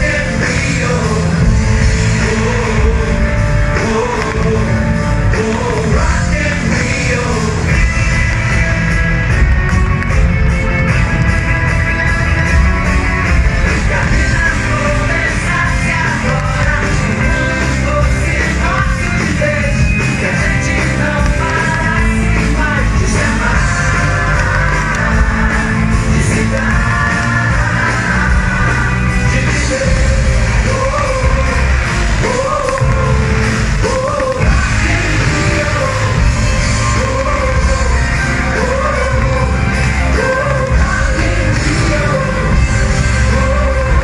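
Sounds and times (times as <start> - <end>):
loud rock music with singing: 0.0 - 44.0.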